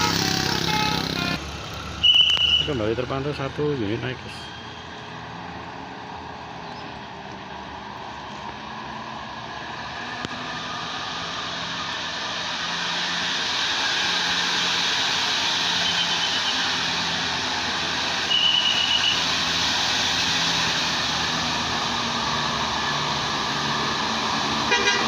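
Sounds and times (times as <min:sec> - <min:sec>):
bus engine working hard: 0:00.0 - 0:25.0.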